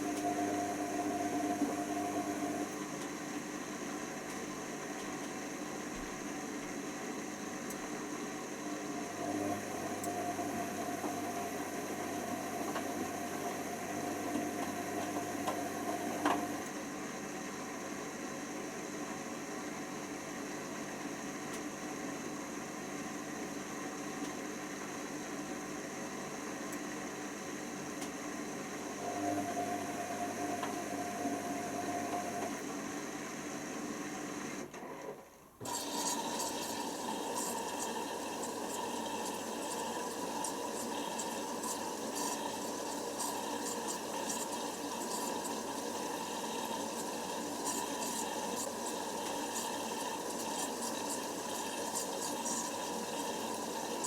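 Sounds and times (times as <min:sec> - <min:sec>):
washer dryer motor hum: 0:00.0 - 0:54.0.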